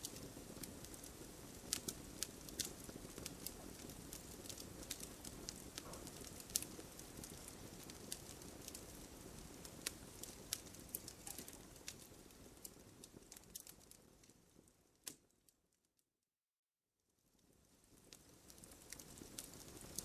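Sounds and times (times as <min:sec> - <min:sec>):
campfire crackling: 0:00.0 - 0:15.5, 0:17.3 - 0:20.0.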